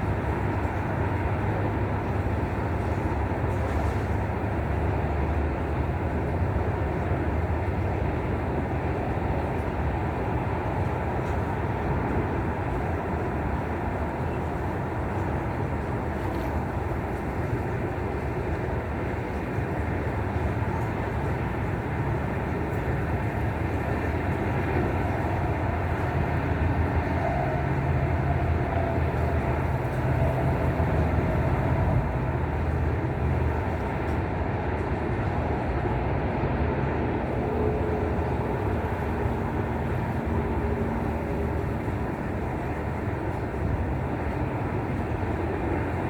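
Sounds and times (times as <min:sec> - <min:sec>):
wind blowing against microphone: 0:00.0 - 0:46.0.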